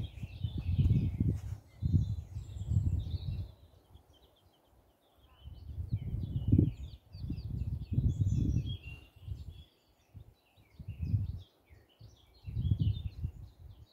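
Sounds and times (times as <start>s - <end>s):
wind buffeting microphone: 0.0s - 4.2s, 5.4s - 13.9s
small birds chirping: 0.0s - 13.9s.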